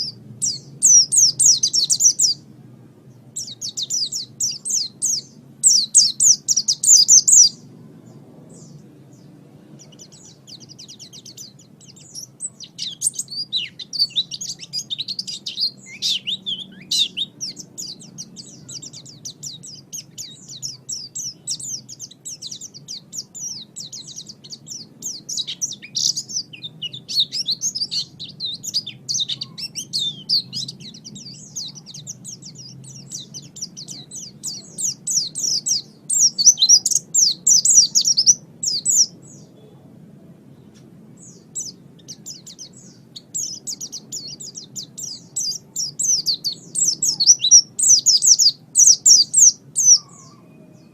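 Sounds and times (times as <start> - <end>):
bird twittering song: 0.0 - 39.8, 40.5 - 50.9
faint low hum: 0.0 - 50.9.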